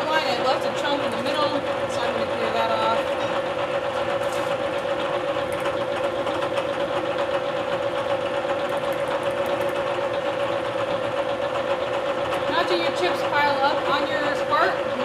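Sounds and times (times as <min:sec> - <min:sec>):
milling machine spindle hum: 0:00.0 - 0:15.0.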